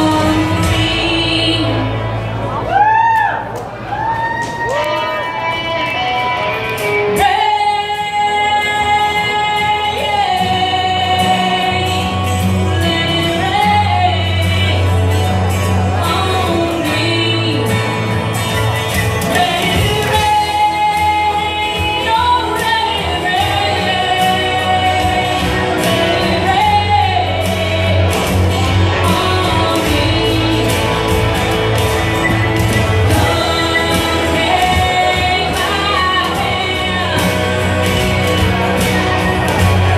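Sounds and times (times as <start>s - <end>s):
woman singing into a microphone: 0.0s - 2.6s, 7.1s - 39.9s
music with steady bass line: 0.0s - 2.9s, 5.0s - 39.9s.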